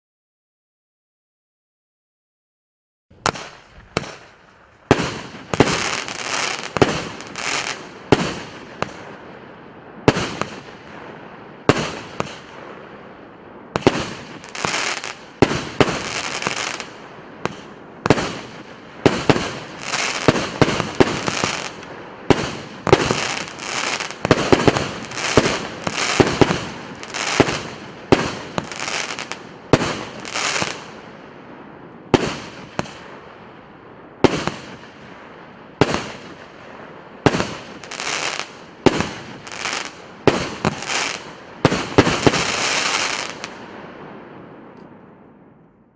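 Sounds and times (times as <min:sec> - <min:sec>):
firework bangs with hiss: 0:03.2 - 0:09.3, 0:10.0 - 0:12.9, 0:13.7 - 0:31.1, 0:32.1 - 0:33.3, 0:34.2 - 0:35.2, 0:35.8 - 0:44.2.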